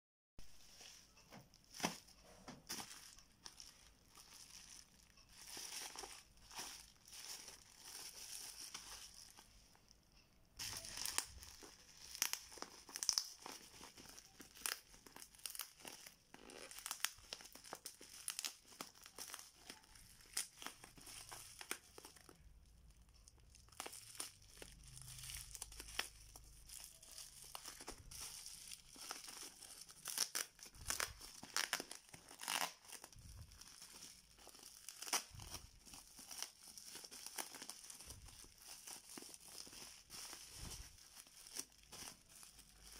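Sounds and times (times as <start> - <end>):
bubble wrap crinkling: 0.4 - 10.0, 10.6 - 42.9
bubble wrap tearing: 0.5 - 9.5, 10.6 - 42.9.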